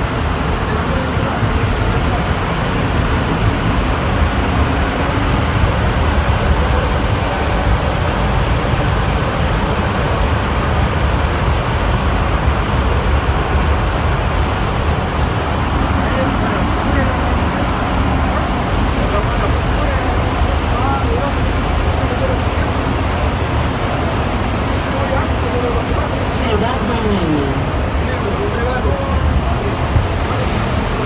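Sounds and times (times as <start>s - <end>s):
metro train rumbling: 0.0s - 31.0s.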